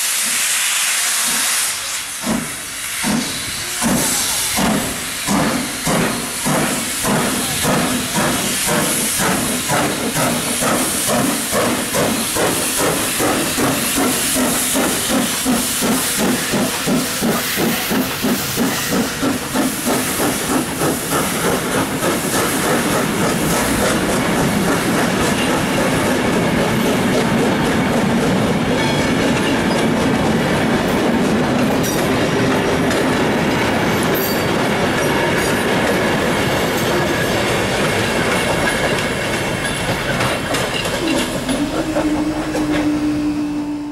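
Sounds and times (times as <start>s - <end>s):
steam locomotive exhaust beats: 0.0s - 43.9s
train wheels clickety-clack: 0.0s - 43.9s.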